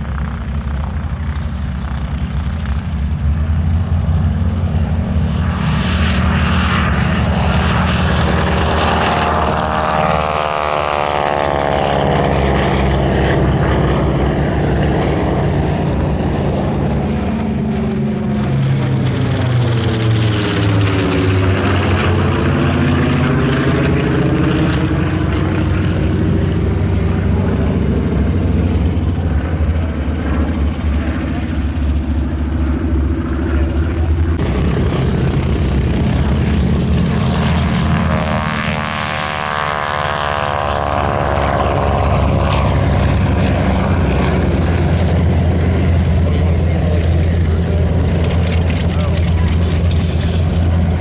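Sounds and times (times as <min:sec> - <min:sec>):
aircraft engine overhead: 0:00.0 - 0:51.0
aircraft passing: 0:00.0 - 0:51.0
radial engine and propeller: 0:00.0 - 0:51.0.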